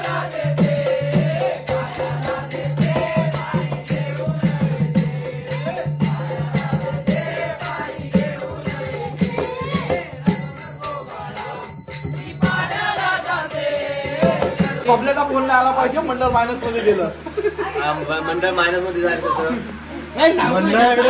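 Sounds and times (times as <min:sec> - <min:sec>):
metallic hand cymbals: 0:00.0 - 0:18.8
devotional singing: 0:00.0 - 0:21.0.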